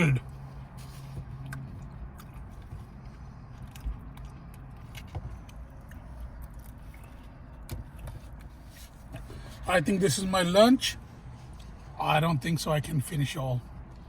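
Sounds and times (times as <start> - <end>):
car cabin engine hum: 0.0 - 14.0.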